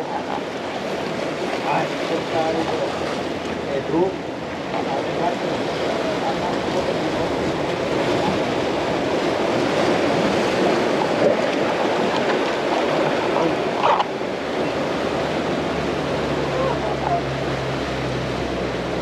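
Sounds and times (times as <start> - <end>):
ocean surf on shore: 0.0 - 19.0.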